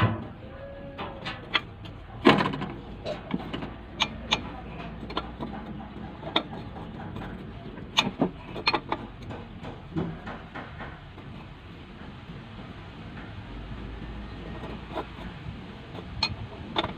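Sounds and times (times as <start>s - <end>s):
sharp clicks and knocks of hand work: 1.0s - 13.6s, 14.3s - 16.9s.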